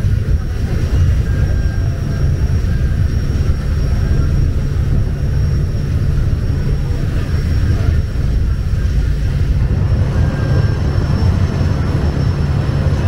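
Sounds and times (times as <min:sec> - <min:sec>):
ferry engine rumble: 0:00.0 - 0:13.0.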